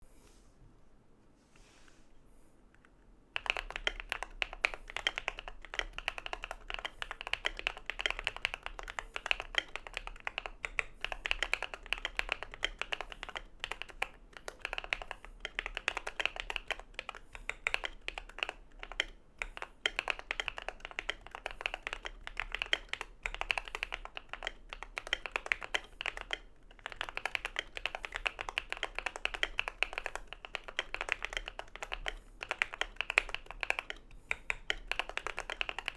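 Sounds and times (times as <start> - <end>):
mechanical keyboard typing: 2.8 - 35.9.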